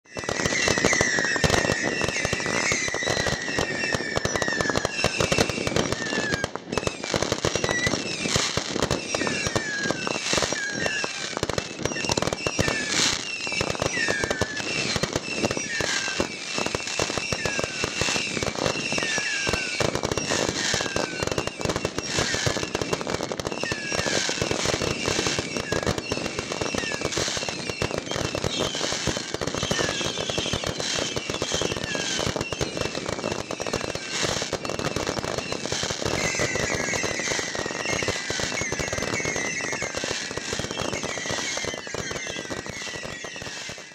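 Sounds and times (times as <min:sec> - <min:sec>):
falling whistles: 0:00.1 - 0:43.9
fireworks fountains crackling: 0:00.1 - 0:43.9.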